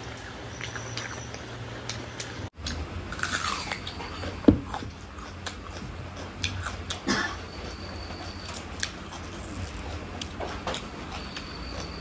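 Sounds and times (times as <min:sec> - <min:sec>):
chewing with wet mouth noises: 0:00.0 - 0:12.0.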